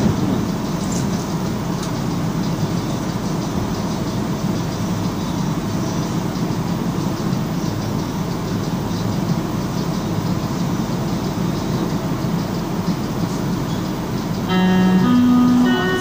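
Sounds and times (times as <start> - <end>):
train car hum and rumble: 0.0 - 16.0.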